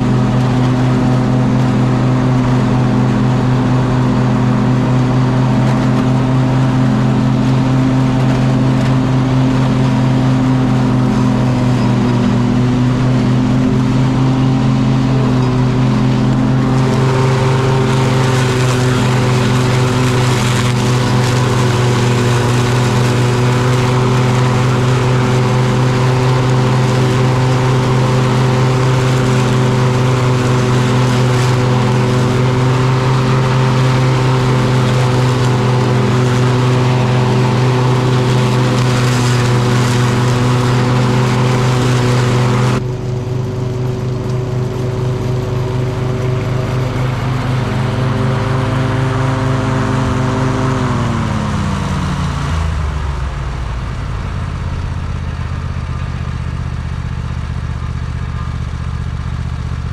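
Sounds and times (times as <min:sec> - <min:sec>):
riding lawn mower engine: 0:00.0 - 0:59.9.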